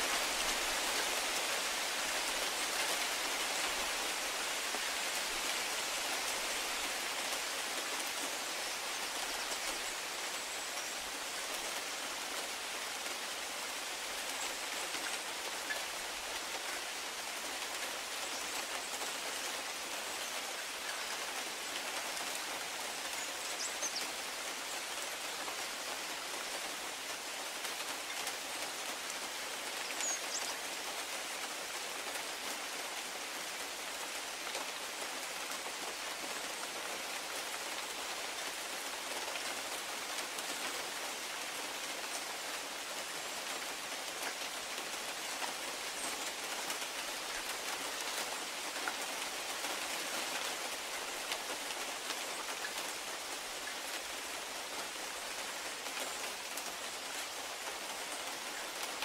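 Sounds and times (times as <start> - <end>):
steady rain on grass: 0.0 - 59.0.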